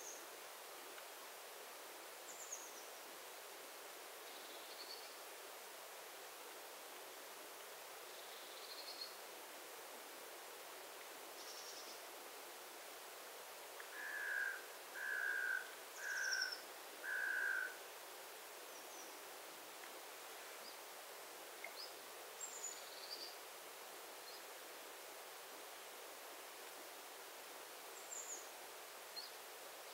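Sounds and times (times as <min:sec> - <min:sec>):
faint background hiss: 0:00.0 - 0:29.9.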